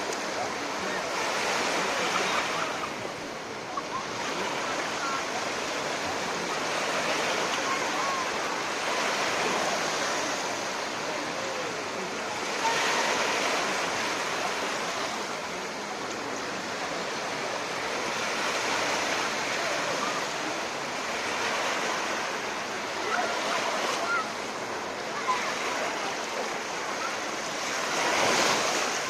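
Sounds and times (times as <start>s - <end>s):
waves breaking on shore: 0.0s - 29.0s.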